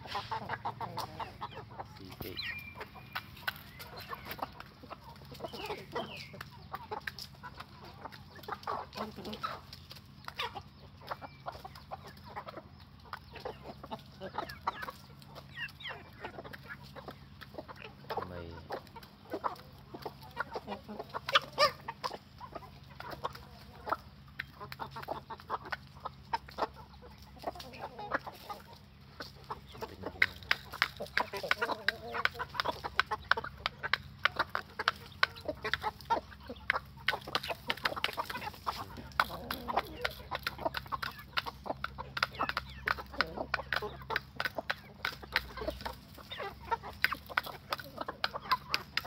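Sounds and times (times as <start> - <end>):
chickens clucking: 0.0 - 49.0
beaks tapping on ground: 0.1 - 49.0.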